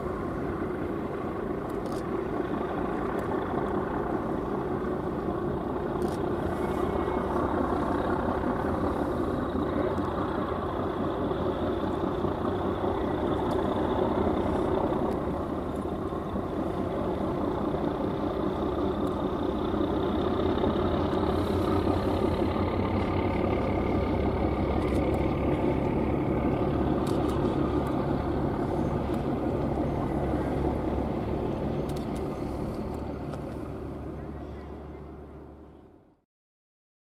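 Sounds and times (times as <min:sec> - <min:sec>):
diesel engines rumbling: 0:00.0 - 0:36.2.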